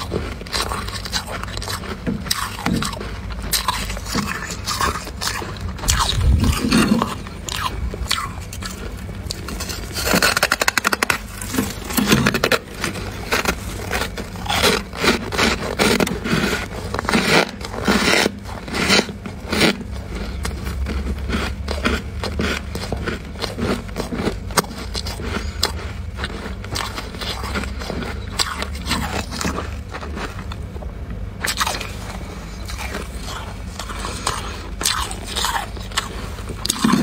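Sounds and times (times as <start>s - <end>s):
frost crunching as chewed: 0.0s - 37.0s.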